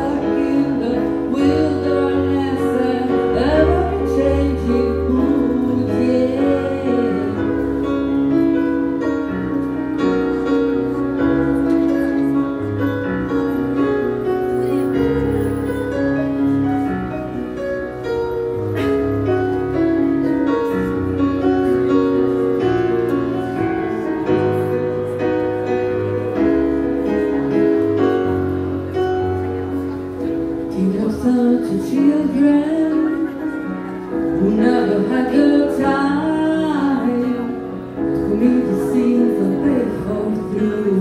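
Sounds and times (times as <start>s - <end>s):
piano chords: 0.0s - 41.0s.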